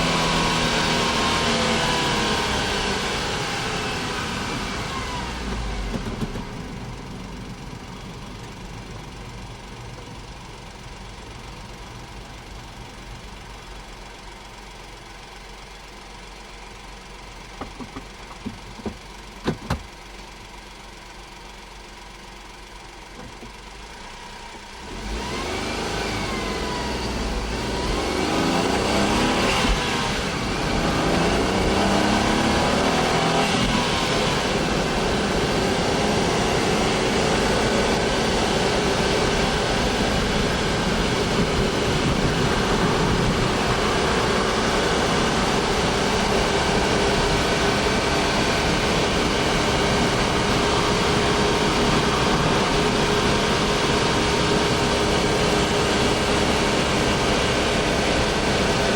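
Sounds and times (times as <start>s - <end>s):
car engine accelerating: 0.0s - 20.8s, 22.6s - 58.9s.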